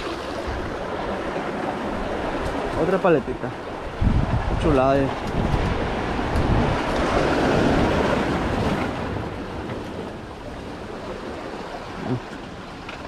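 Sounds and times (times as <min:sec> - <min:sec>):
sea surf washing against rocks: 0:00.0 - 0:13.0.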